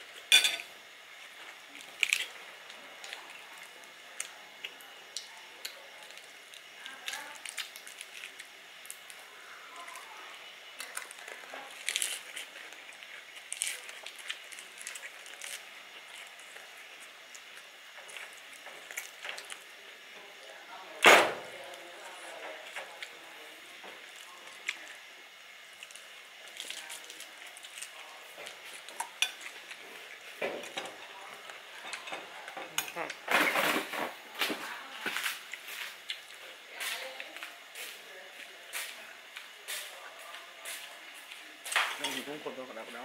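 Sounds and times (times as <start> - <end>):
crunchy food being chewed: 1.2 - 20.5, 21.6 - 33.8, 34.4 - 43.0.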